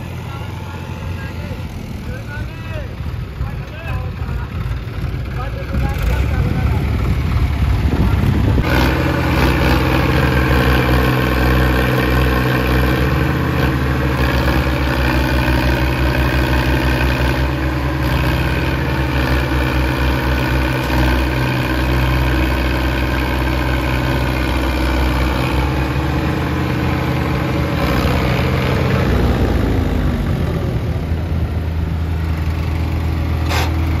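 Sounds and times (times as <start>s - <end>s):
tractor engines labouring: 0.0s - 34.0s.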